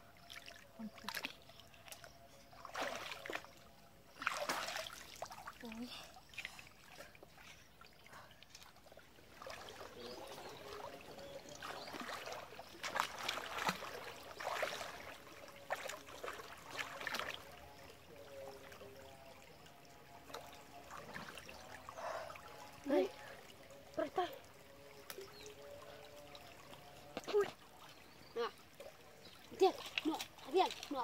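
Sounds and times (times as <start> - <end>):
water splashing and sloshing: 0.0 - 31.0.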